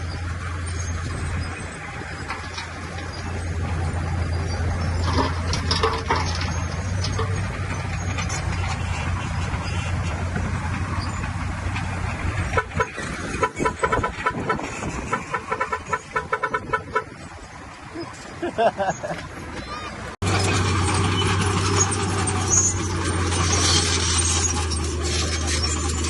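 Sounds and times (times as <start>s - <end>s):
diesel machine droning: 0.0s - 26.0s.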